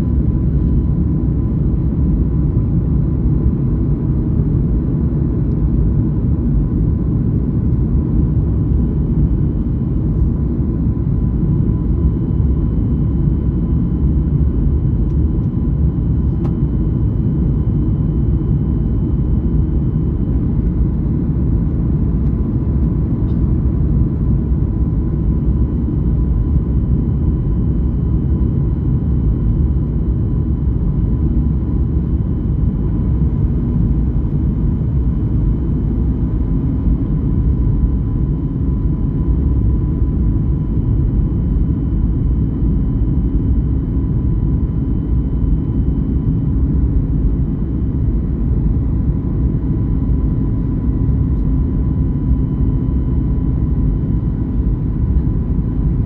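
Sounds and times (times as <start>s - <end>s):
engine and airflow rumble: 0.0s - 56.0s.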